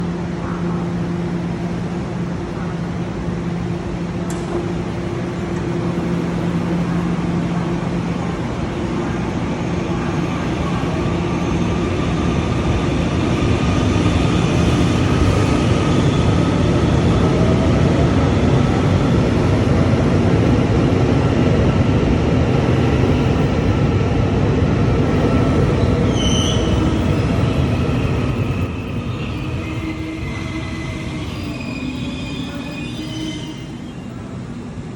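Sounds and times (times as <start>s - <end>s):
electric train accelerating: 1.0s - 34.9s.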